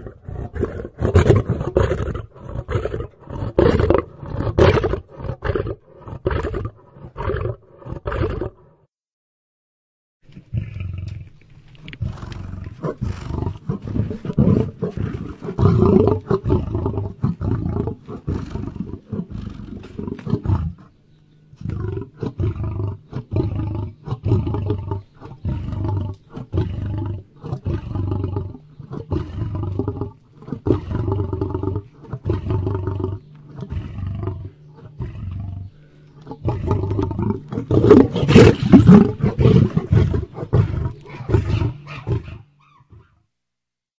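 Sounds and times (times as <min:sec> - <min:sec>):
lion roaring: 0:00.0 - 0:08.7, 0:10.5 - 0:21.0, 0:21.6 - 0:43.2.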